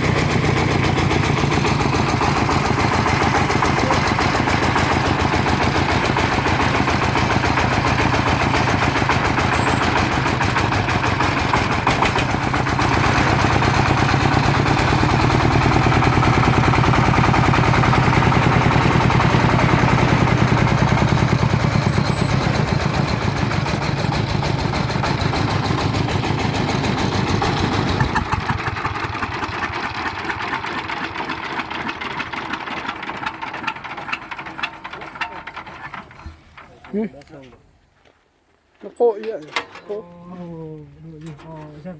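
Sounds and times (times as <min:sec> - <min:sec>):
farm truck engine chugging: 0:00.0 - 0:37.8.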